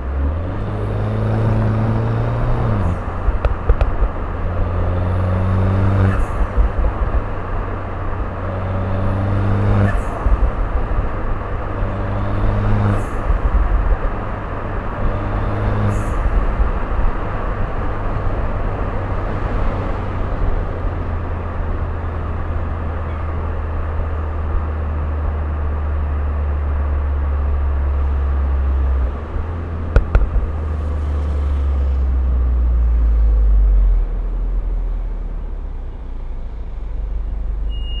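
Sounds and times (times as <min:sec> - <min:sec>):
car engine low drone: 0:00.0 - 0:38.0.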